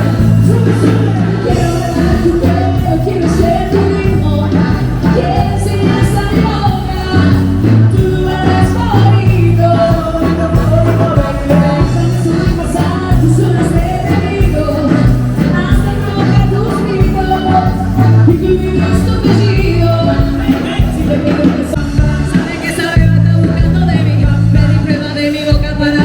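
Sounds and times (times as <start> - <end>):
person singing: 0.0 - 26.0
steady drum beat: 0.0 - 26.0
sustained bass line: 0.0 - 26.0.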